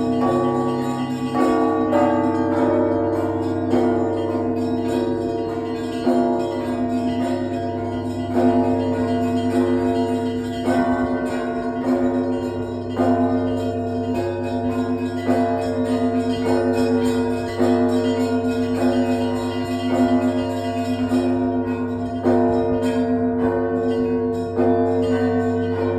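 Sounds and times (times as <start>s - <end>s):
church bells ringing: 0.0s - 25.9s.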